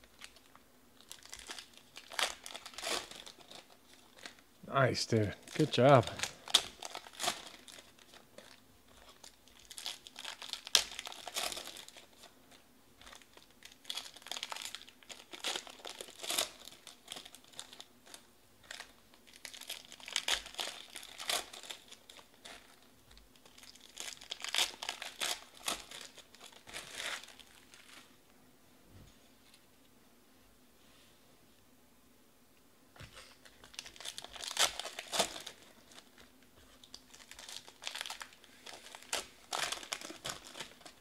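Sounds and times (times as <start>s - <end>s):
foil wrappers crinkling and tearing: 0.0s - 4.5s, 5.4s - 28.1s, 33.2s - 41.0s.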